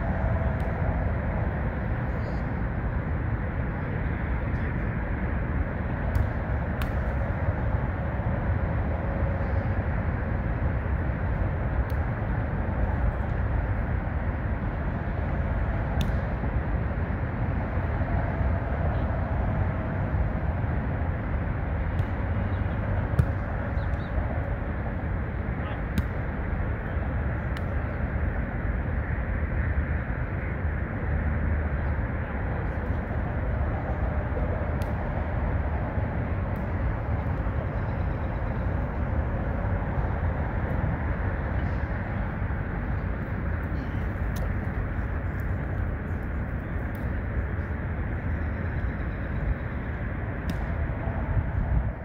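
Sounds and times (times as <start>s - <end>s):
low rumble of traffic: 0.0s - 52.0s.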